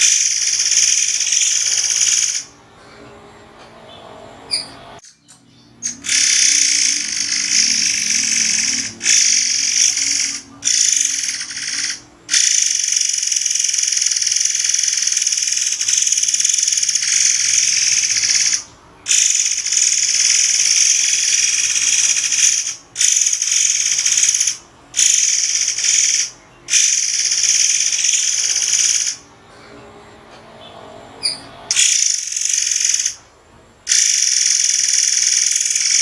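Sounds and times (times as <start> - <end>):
bird singing shrill trill: 0.0 - 2.5, 3.9 - 29.3, 30.6 - 33.2, 33.9 - 36.0.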